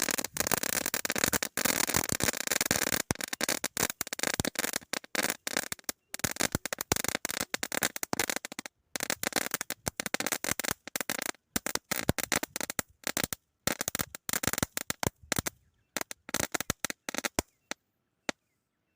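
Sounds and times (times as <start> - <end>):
firecrackers banging: 0.0 - 17.5.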